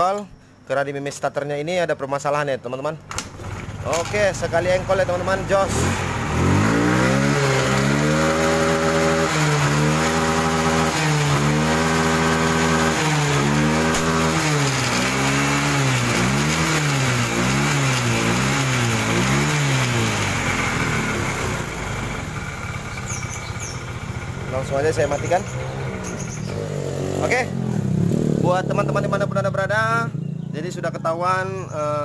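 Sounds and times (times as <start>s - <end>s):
scooter engine revving: 3.3s - 30.6s.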